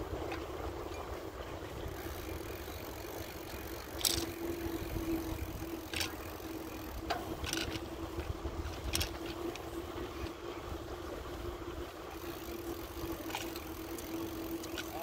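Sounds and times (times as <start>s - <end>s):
bicycle rattles: 0.0s - 15.0s
bicycle tyres rumbling on pavement: 0.0s - 15.0s
steady hum: 0.0s - 15.0s
wind: 0.0s - 15.0s.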